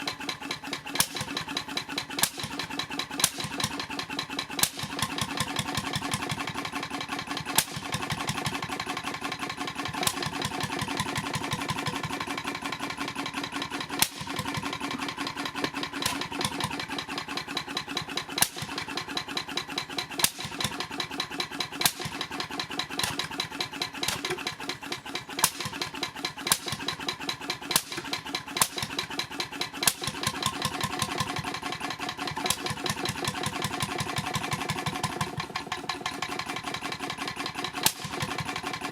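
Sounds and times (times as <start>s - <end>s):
portable engine running: 0.0s - 38.9s.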